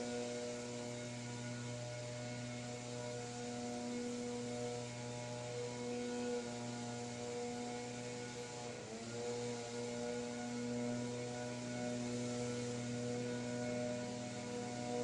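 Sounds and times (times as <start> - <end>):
steady hum of held tones: 0.0 - 15.0.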